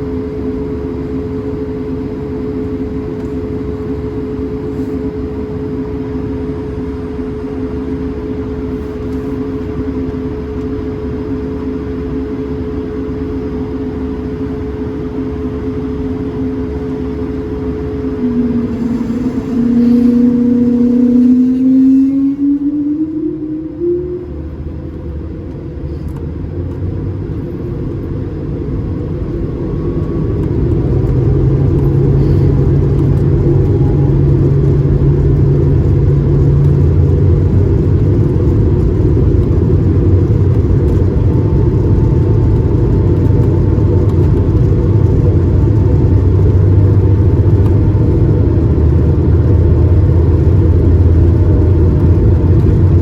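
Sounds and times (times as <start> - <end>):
jet engines rumbling in cabin: 0.0 - 53.0.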